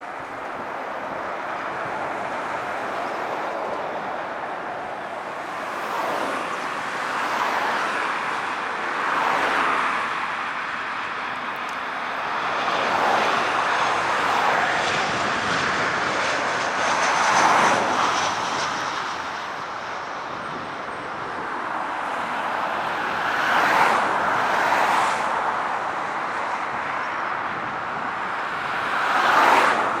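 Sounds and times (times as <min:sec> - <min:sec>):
jet engines rushing: 0:00.1 - 0:30.0.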